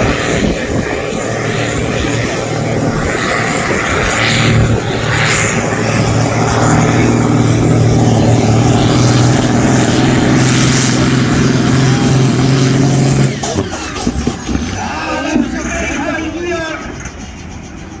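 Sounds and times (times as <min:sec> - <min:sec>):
tractor engine at high revs: 0:00.0 - 0:18.0.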